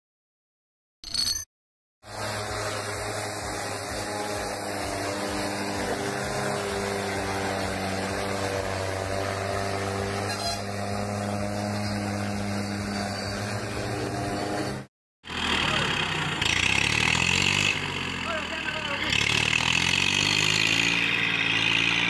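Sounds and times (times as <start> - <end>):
tractor diesel engine under load: 2.1 - 22.0.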